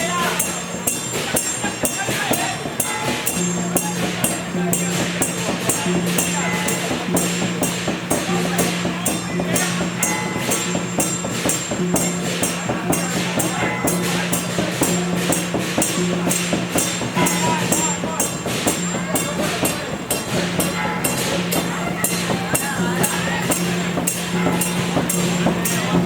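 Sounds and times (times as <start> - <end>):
low melodic line: 0.0 - 26.0
metallic percussion beat: 0.0 - 26.0.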